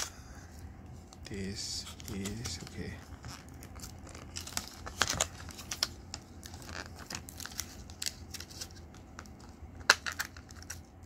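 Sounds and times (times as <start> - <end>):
plastic packaging clicks and crackles: 2.0 - 10.9.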